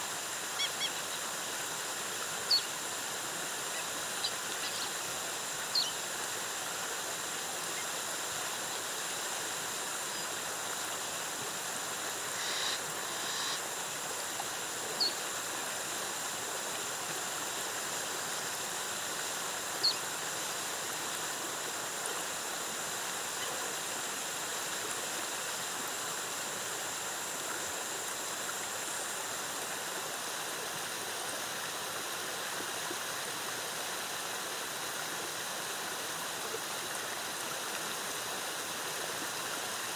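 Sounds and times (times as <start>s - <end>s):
waterfall cascading: 0.0s - 39.9s.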